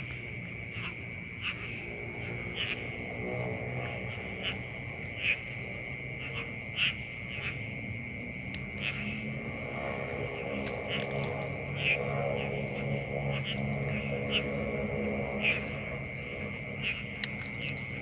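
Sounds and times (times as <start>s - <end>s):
frogs chirping: 0.0s - 18.0s
insect drone: 0.0s - 18.0s.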